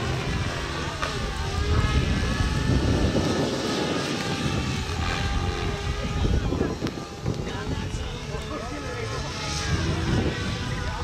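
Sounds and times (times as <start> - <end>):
model helicopter rotor whir: 0.0 - 11.0.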